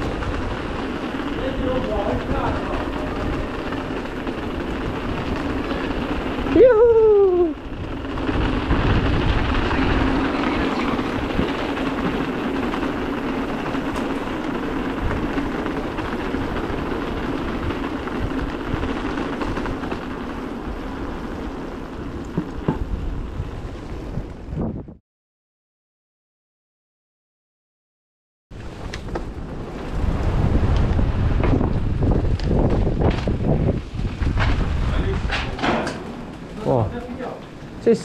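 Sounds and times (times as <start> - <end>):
bike rattling: 0.0 - 24.8, 28.5 - 38.0
bike tyres rumbling on cobbles: 0.0 - 25.0, 28.5 - 38.0.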